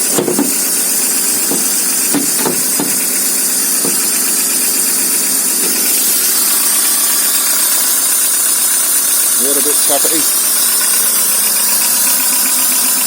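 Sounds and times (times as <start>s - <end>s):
car engine idling with ticking: 0.0s - 13.0s.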